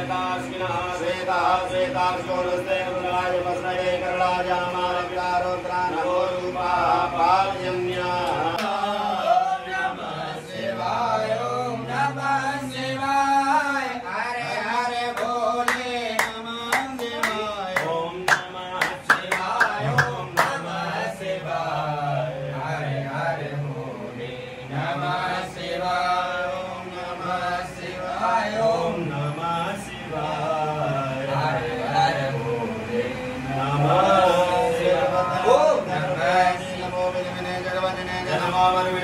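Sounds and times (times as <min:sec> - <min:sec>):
men chanting: 0:00.0 - 0:39.0.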